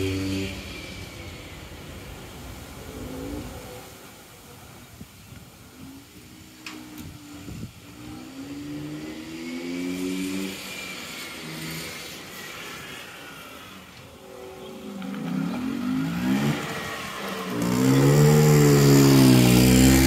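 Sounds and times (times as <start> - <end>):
scooter engine revving: 0.0 - 3.9, 5.8 - 20.0.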